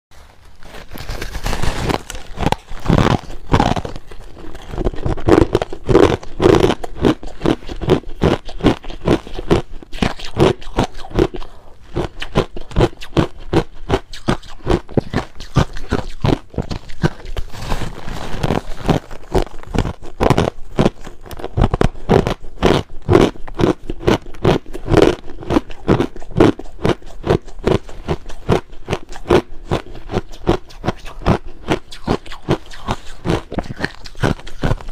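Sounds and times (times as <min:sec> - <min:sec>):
person chewing crushed ice: 0:00.3 - 0:34.9.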